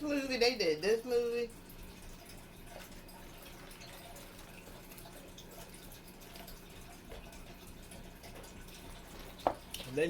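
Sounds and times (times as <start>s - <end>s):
trickle of running water: 0.0s - 10.0s.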